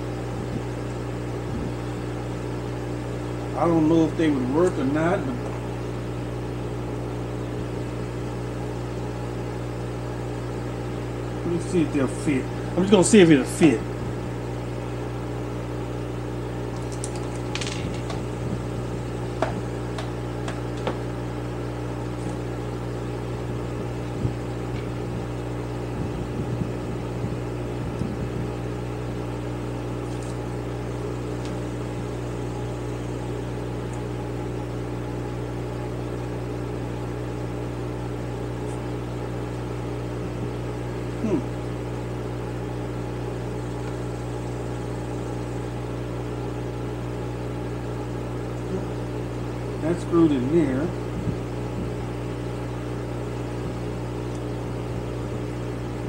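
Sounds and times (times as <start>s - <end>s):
electric hum: 0.0s - 56.0s.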